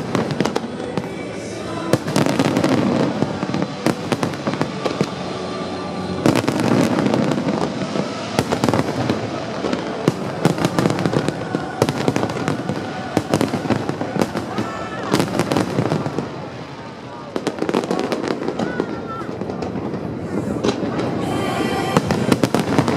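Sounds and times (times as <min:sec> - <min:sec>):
fireworks bangs and crackling: 0:00.0 - 0:22.9.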